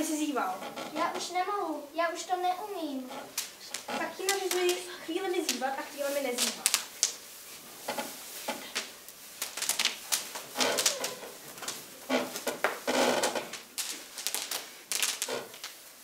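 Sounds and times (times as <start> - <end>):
knocks and shuffles of movement: 0.0 - 15.7.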